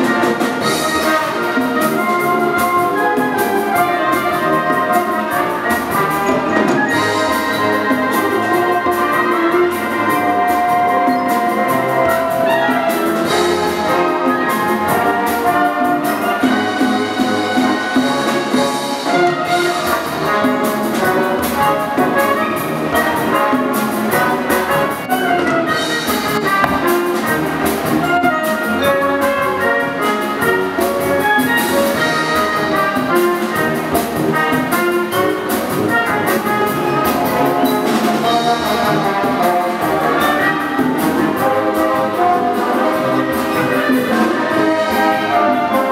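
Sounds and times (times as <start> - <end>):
trumpets and trombones: 0.0 - 45.9
wind band playing: 0.0 - 45.9.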